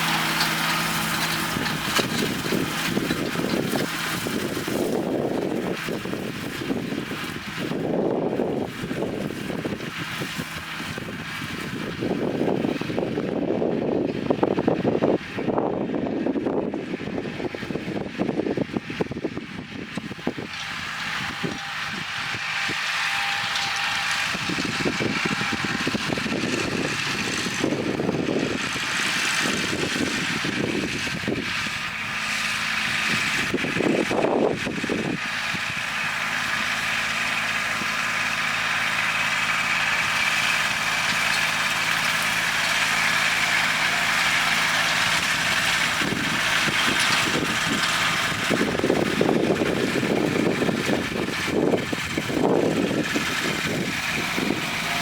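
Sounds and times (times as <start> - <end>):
tractor diesel engine humming: 0.0 - 55.0.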